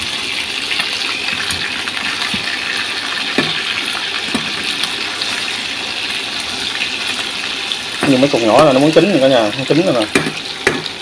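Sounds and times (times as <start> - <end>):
ribs sizzling in hot oil: 0.0 - 11.0.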